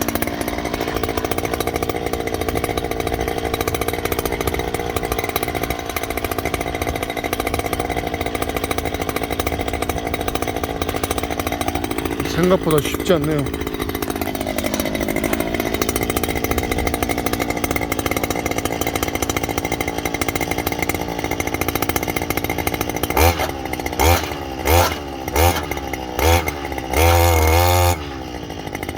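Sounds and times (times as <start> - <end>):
earth auger engine running: 0.0 - 28.9.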